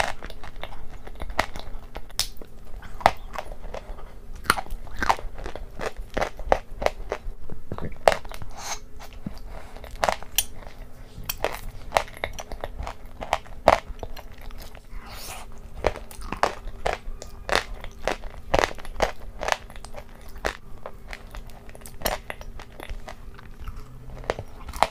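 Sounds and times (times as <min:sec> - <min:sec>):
chewing crunchy food: 0:00.0 - 0:24.9.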